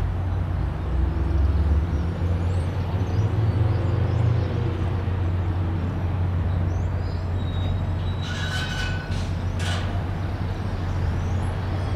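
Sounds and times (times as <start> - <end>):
traffic rumble: 0.0 - 11.9.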